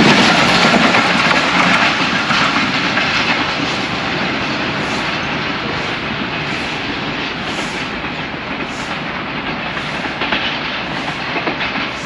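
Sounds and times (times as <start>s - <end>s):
train wheels rumbling on track: 0.0s - 12.0s
wheels clacking over rail joints: 0.0s - 12.0s.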